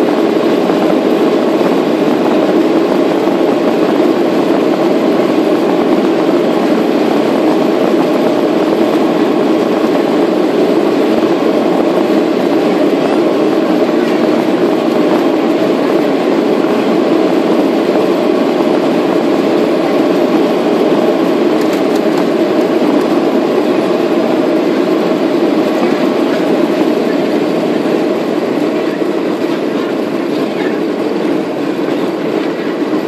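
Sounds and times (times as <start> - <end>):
jet engines at takeoff thrust: 0.0 - 33.0
wheels rumbling on runway: 0.0 - 33.0.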